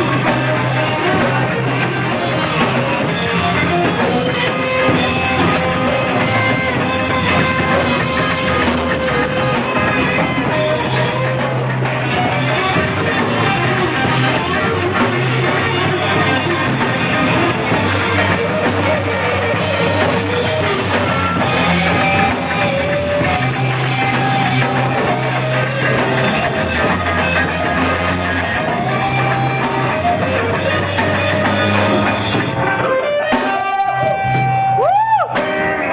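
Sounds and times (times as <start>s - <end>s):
blues-rock band playing: 0.0s - 35.9s.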